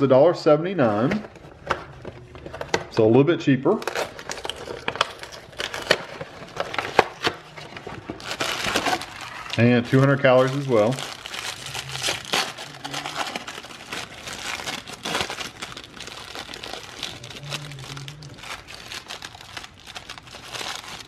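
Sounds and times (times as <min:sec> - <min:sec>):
foil wrapper crinkling and tearing: 0:03.7 - 0:21.0.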